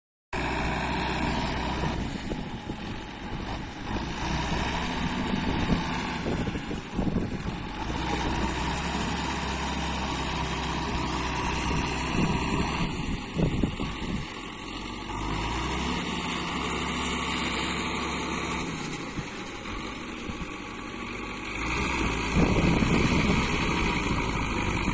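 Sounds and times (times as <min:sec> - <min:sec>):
tractor diesel engine revving: 0:00.4 - 0:24.9.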